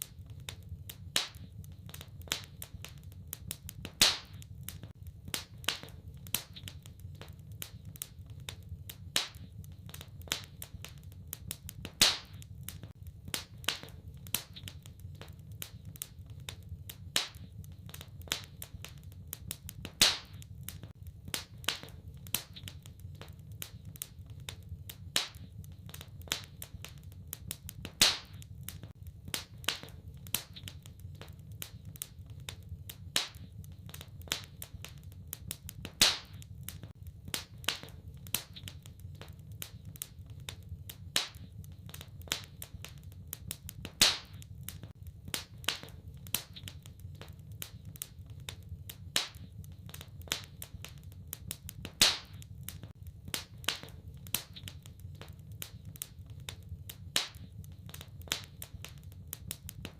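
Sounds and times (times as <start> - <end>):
loud fire pops: 0.0 - 59.9
wood fire crackling: 0.0 - 59.9.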